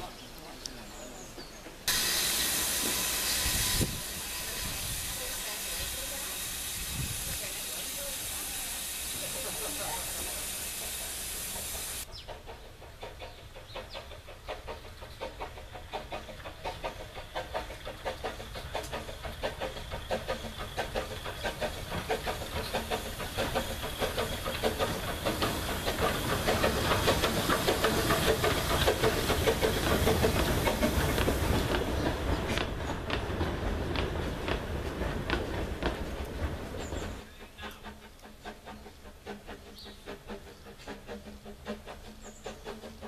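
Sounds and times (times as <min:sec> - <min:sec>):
carriages rumbling and rattling on rails: 0:00.0 - 0:43.0
steam locomotive exhaust beats: 0:00.9 - 0:43.0
steam hiss: 0:01.8 - 0:13.2, 0:14.0 - 0:43.0.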